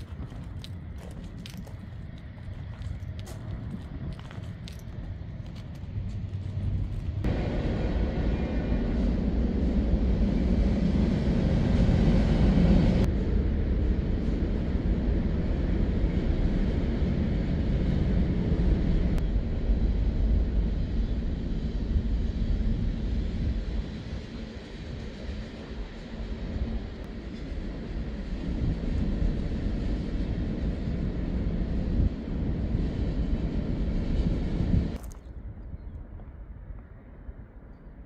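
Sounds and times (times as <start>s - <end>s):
freight train rumbling: 0.0s - 35.0s.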